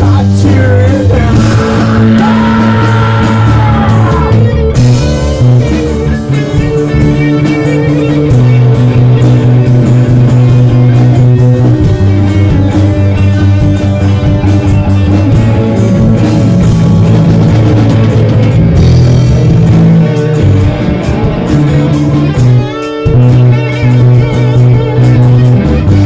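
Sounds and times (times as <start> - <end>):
drum kit: 0.0 - 26.0
electric guitar: 0.0 - 26.0
low bass notes: 0.0 - 26.0.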